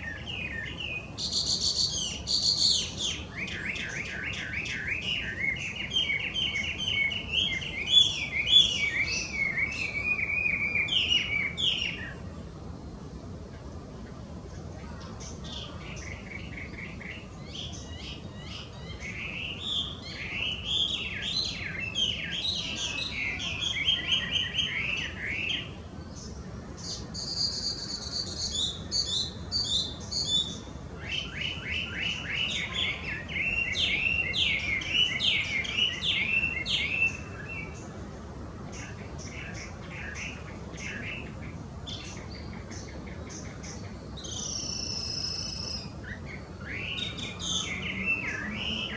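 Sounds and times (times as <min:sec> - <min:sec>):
bird singing whistled song: 0:00.0 - 0:12.2, 0:15.5 - 0:25.8, 0:26.8 - 0:37.8, 0:41.9 - 0:48.9.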